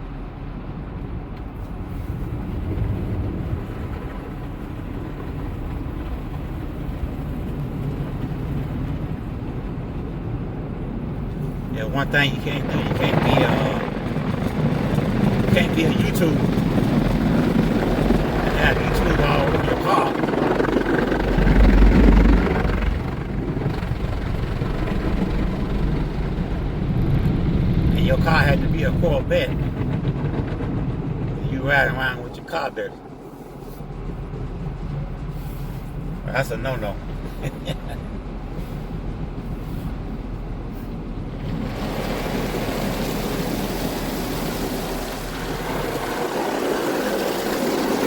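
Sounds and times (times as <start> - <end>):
low vehicle rumble: 0.0 - 48.0.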